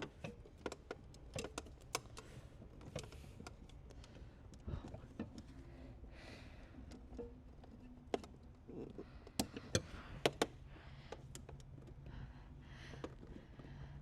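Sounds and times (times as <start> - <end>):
light clicks and taps of parts: 0.0 - 5.7, 6.6 - 14.0.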